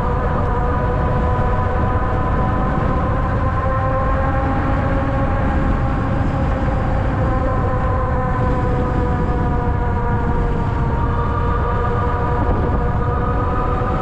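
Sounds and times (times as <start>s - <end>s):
wind and road noise rumble: 0.0s - 14.0s.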